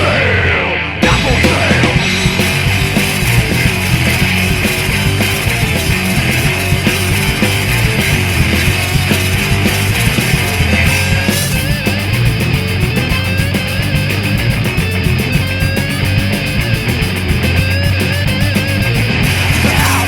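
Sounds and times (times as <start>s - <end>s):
high guitar line with bends: 0.0s - 20.0s
punk rock band playing: 0.0s - 20.0s.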